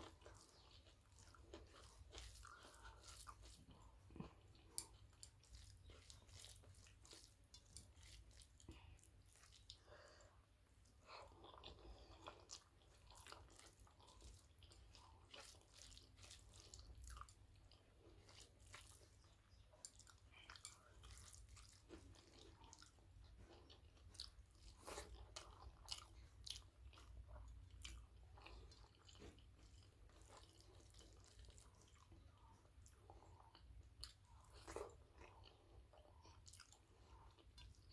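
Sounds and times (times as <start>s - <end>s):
chewing with small crunches: 0.0s - 37.9s.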